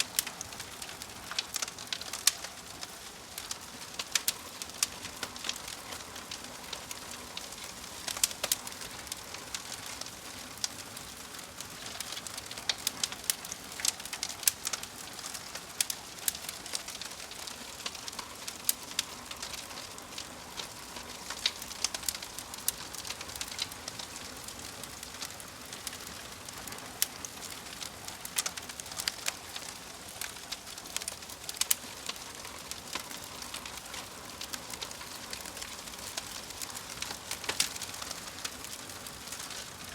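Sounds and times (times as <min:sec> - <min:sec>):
soft steady hiss: 0:00.0 - 0:39.9
wood fire crackling and popping: 0:00.0 - 0:39.9.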